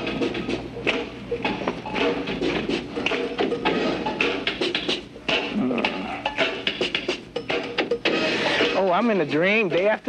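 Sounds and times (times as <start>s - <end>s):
upbeat percussive music: 0.0s - 10.0s.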